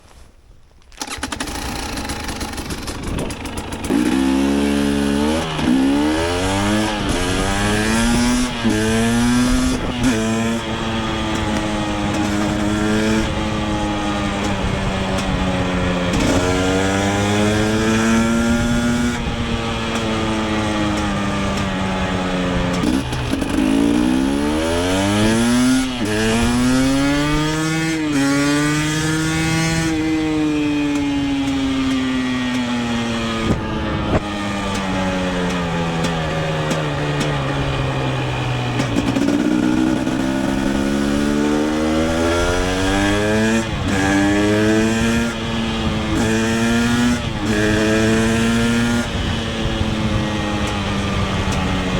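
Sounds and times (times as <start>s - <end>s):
two-stroke motorcycle engine revving: 1.0s - 51.9s.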